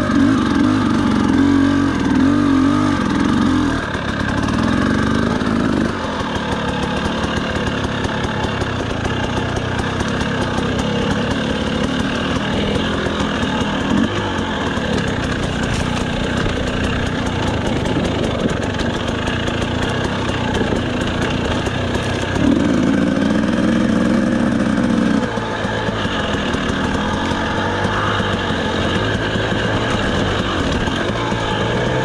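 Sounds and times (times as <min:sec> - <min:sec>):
quadcopter motors buzzing: 0:00.0 - 0:32.0.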